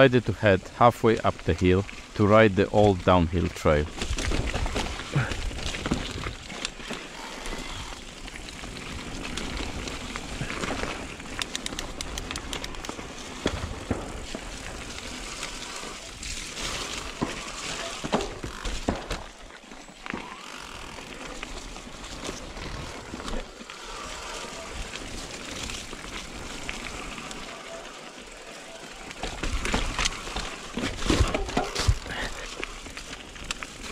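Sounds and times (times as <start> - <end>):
bike tyres on dirt: 0.0 - 33.9
bike knocking and rattling: 3.7 - 33.9.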